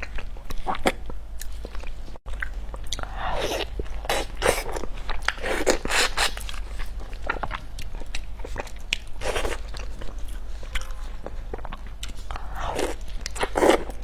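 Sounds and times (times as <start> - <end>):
person chewing noisily: 0.0 - 14.0.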